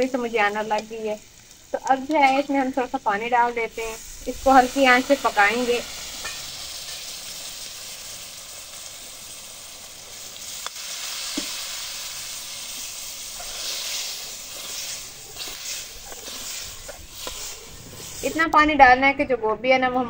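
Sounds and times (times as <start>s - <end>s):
food sizzling in a pot: 0.0s - 18.6s.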